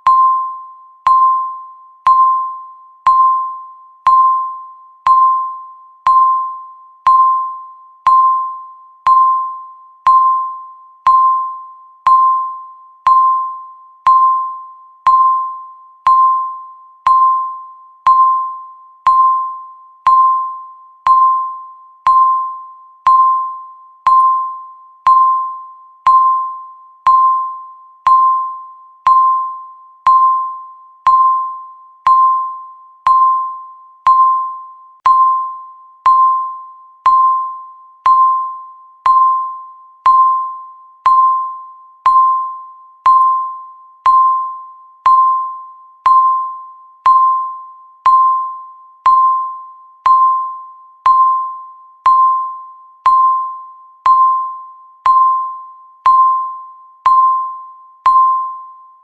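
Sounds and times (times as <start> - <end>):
countdown timer beeps: 0.0 - 59.0.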